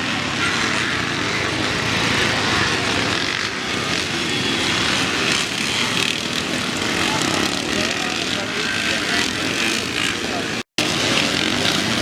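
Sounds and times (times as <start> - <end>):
motorcycle engines revving hard: 0.0 - 12.0.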